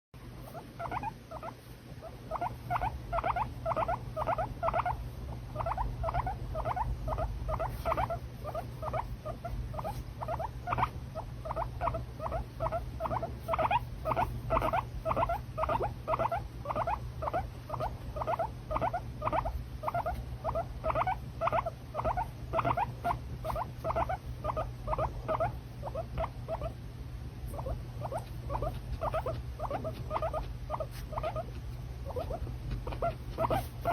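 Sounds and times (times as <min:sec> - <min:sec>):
guinea pig squeaking: 0:00.4 - 0:26.8, 0:27.4 - 0:33.9.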